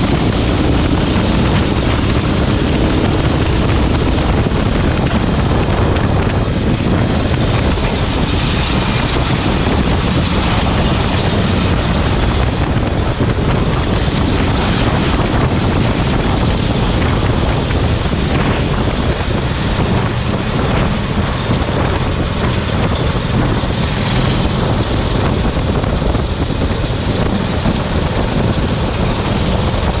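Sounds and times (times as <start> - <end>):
kart engine running: 0.0 - 30.0
wind on microphone: 0.0 - 30.0.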